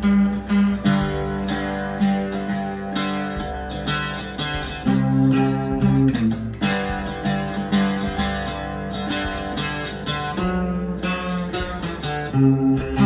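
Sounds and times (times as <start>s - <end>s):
octave mandolin playing: 0.0s - 13.0s.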